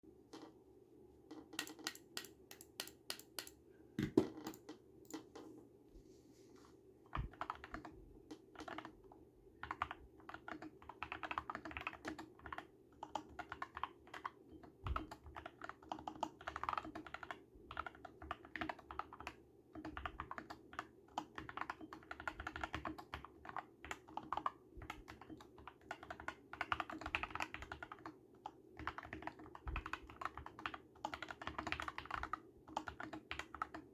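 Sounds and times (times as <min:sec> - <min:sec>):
mechanical keyboard typing: 0:01.3 - 0:05.3, 0:07.1 - 0:09.0, 0:09.6 - 0:33.9.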